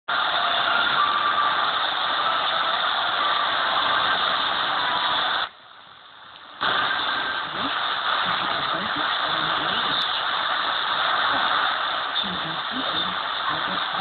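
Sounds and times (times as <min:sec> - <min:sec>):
radio static hiss: 0:00.1 - 0:14.0.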